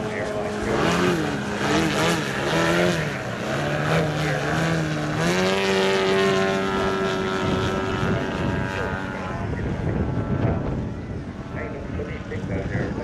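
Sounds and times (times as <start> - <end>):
model plane engine and propeller: 0.0 - 13.0.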